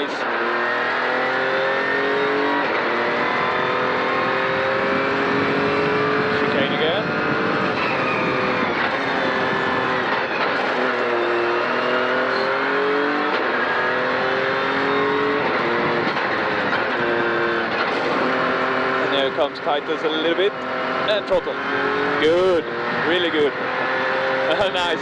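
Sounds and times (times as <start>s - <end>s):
car engine revving: 0.0s - 25.0s
tyre and road noise: 0.0s - 25.0s.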